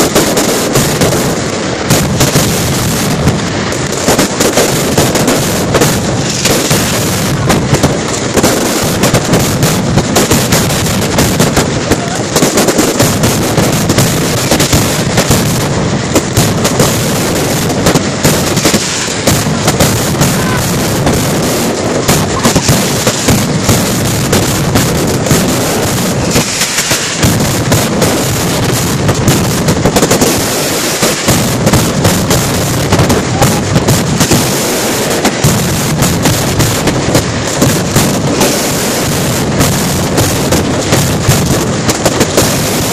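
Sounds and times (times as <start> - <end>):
firecrackers and fireworks banging: 0.0 - 42.9.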